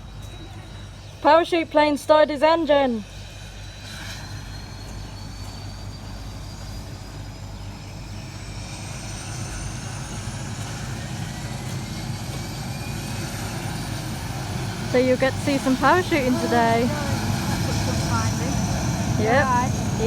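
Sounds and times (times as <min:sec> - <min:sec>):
faint high whine rising: 0:00.0 - 0:20.0
plane engine drone: 0:00.0 - 0:20.0.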